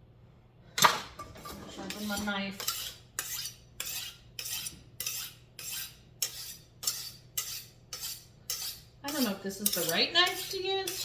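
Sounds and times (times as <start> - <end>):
knife scraping on sharpener: 1.4 - 11.0.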